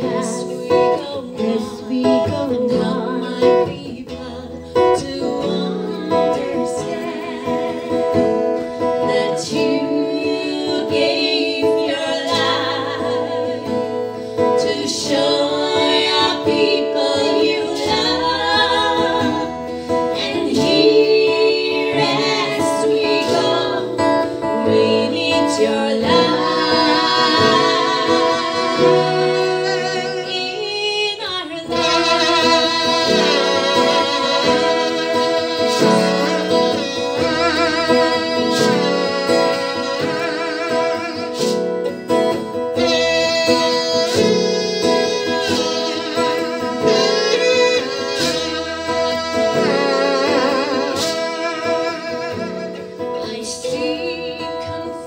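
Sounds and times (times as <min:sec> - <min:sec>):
strummed acoustic guitar: 0:00.0 - 0:55.0
women singing: 0:00.0 - 0:55.0.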